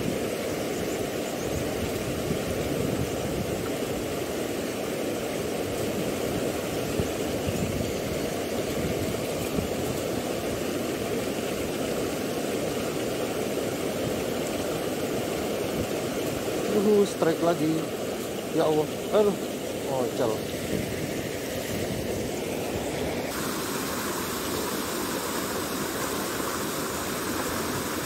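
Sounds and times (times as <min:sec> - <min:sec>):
water rushing through channel: 0:00.0 - 0:28.0.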